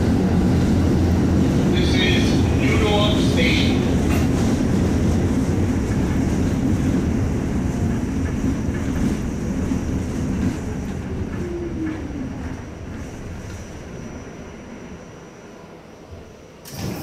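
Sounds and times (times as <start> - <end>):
subway car rumbling: 0.0 - 17.0.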